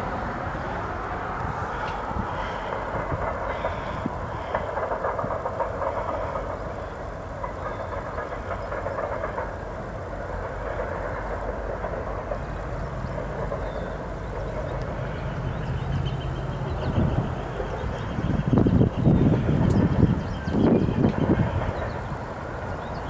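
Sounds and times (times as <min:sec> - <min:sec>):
diesel locomotive engines: 0:00.0 - 0:23.0
freight train passing: 0:00.0 - 0:23.0
steel wheels rolling on rails: 0:00.0 - 0:23.0.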